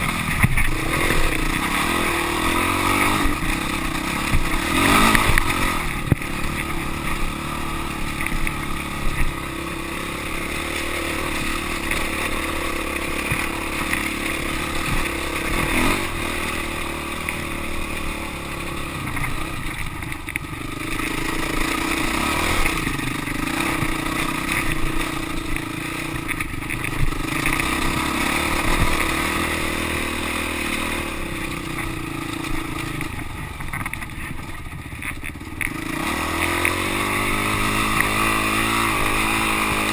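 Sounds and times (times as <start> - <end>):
dirt bike engine under load: 0.0 - 39.9.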